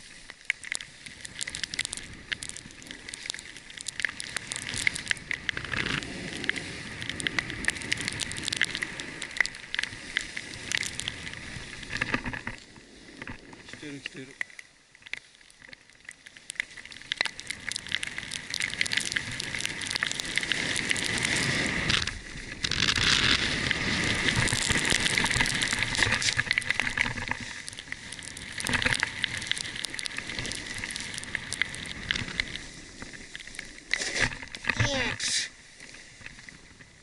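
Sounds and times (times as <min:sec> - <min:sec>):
skis sliding over snow: 0:00.0 - 0:37.0.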